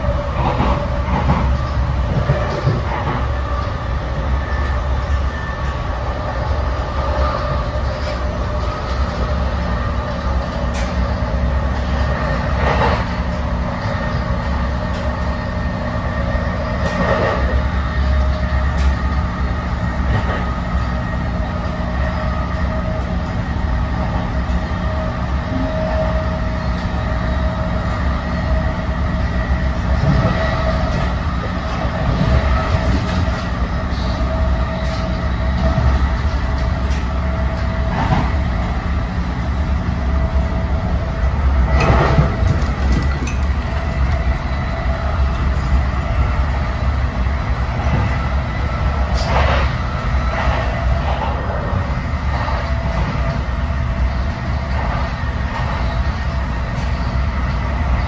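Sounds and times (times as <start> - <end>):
train coach low rumble: 0.0 - 58.0.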